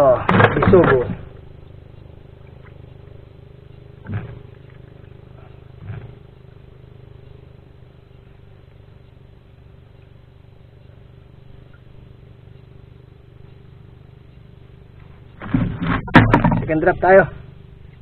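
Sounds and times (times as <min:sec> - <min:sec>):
small engine droning: 0:00.0 - 0:18.0.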